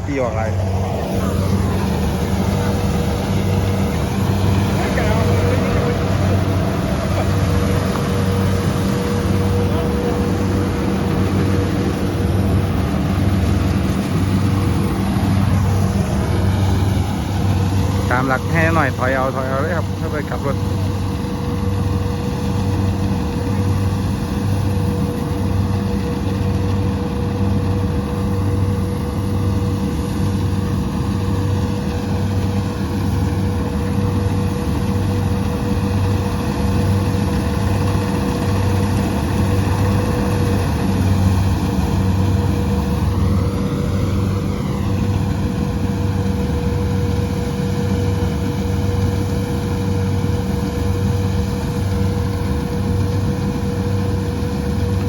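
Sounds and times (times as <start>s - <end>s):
combine harvester engine throbbing: 0.0s - 55.0s
steady machine whine: 0.0s - 55.0s.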